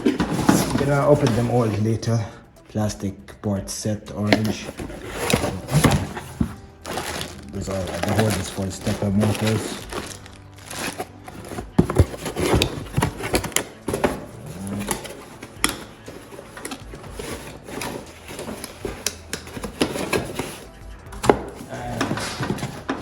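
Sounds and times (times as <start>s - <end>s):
plastic bags rustling: 0.0s - 2.4s, 4.2s - 23.0s
plastic parts clicking and knocking: 4.1s - 23.0s.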